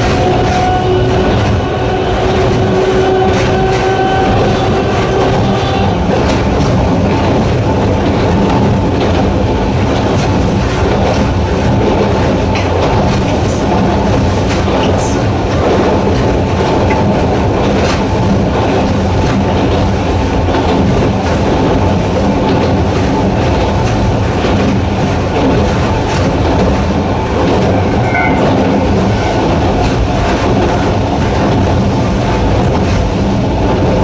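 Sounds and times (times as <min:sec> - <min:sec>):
train motors humming: 0:00.0 - 0:34.0
wheels clacking over rail joints: 0:00.0 - 0:34.0.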